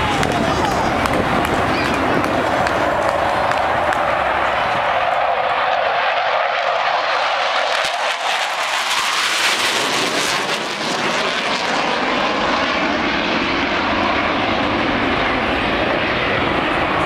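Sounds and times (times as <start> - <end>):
fighter jets flying overhead: 0.0 - 17.0.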